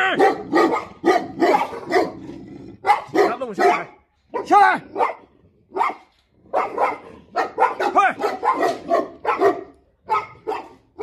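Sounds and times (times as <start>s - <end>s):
dogs barking deeply: 0.0s - 11.0s.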